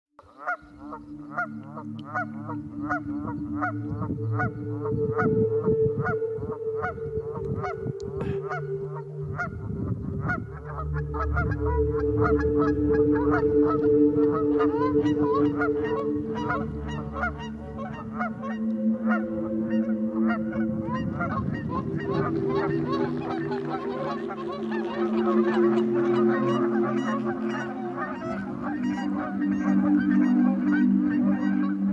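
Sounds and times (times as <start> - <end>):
geese honking: 0.2 - 31.9
low droning tones: 0.6 - 31.9.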